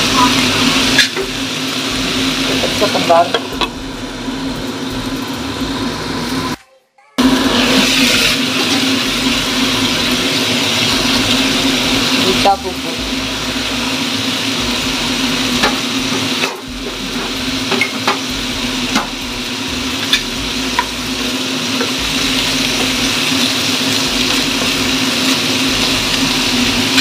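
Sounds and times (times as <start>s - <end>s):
food sizzling in a frying pan: 0.0s - 6.6s, 7.2s - 27.0s
steady hum: 0.0s - 6.6s, 7.2s - 27.0s.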